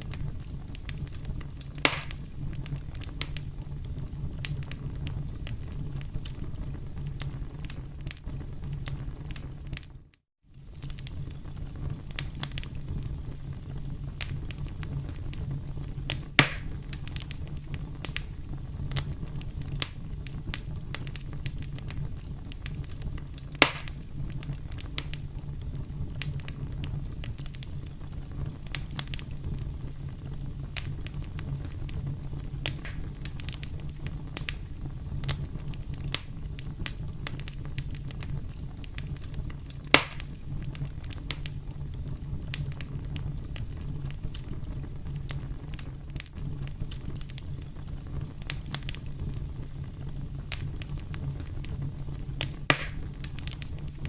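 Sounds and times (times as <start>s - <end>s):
campfire crackling: 0.0s - 54.0s
loud sharp pops of fire: 0.0s - 54.0s.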